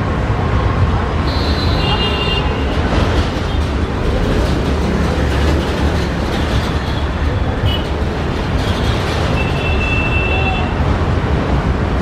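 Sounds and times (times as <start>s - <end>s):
train wheels rumbling on rails: 0.2s - 12.0s.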